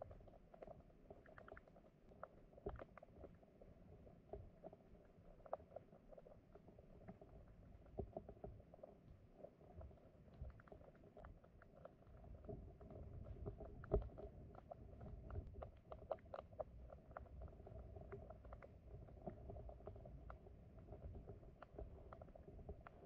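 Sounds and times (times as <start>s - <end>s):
small clicks and ticks: 0.0s - 23.0s
stream flowing underwater: 0.0s - 23.0s.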